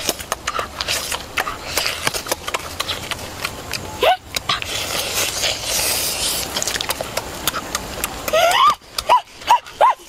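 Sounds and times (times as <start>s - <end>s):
wet chewing and lip-smacking: 0.0s - 10.0s.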